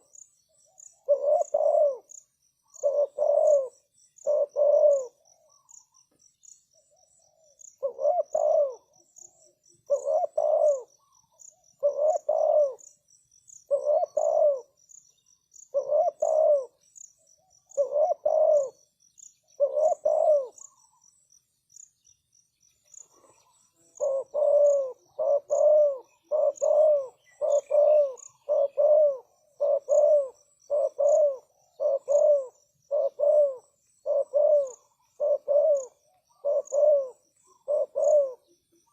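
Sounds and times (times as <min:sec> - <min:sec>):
dove cooing: 0:00.0 - 0:06.0, 0:06.8 - 0:13.0, 0:13.6 - 0:14.8, 0:15.6 - 0:16.8, 0:17.4 - 0:21.0, 0:22.9 - 0:38.9.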